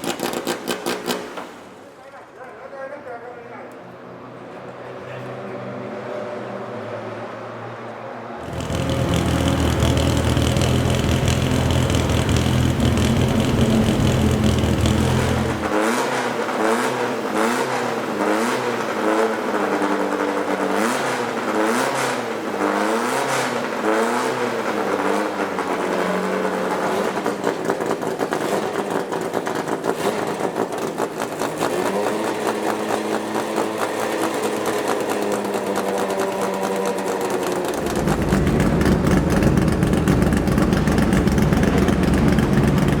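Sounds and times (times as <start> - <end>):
racing car engines at full throttle: 4.4 - 43.0.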